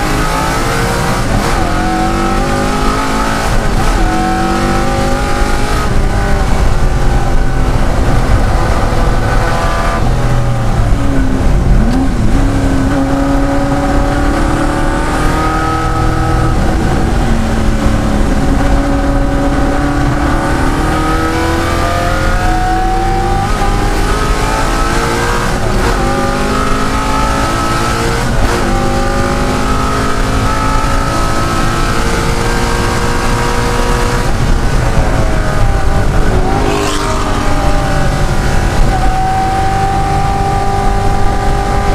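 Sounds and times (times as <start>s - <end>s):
race engine at full throttle: 0.0s - 41.9s.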